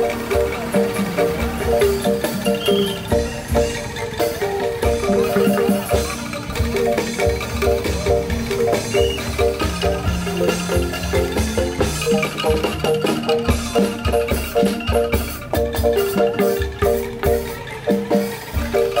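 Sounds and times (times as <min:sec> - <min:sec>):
angklung and xylophone tune: 0:00.0 - 0:19.0
hand drums beat: 0:00.0 - 0:19.0.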